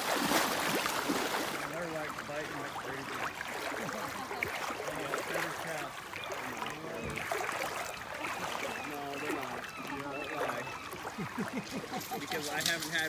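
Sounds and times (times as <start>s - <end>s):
flowing river water: 0.0s - 13.0s
people talking indistinctly: 1.6s - 13.0s.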